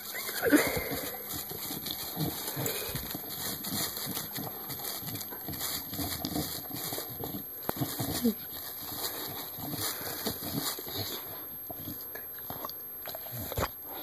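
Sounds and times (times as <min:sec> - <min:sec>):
plastic bag rustling: 0:00.0 - 0:12.2
dog chewing and licking: 0:00.0 - 0:13.8.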